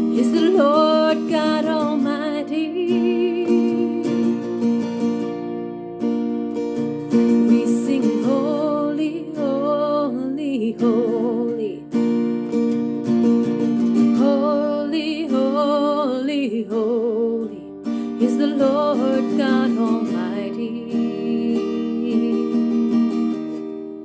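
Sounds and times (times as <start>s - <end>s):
person singing with vibrato: 0.0s - 4.9s, 7.3s - 12.0s, 14.1s - 24.0s
acoustic guitar chords: 0.0s - 24.0s.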